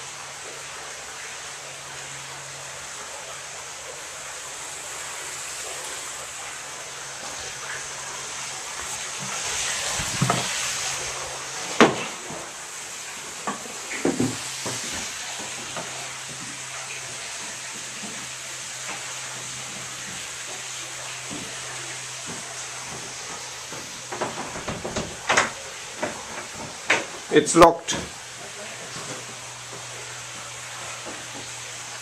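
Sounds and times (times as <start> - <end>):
steady rushing hiss: 0.0 - 32.0.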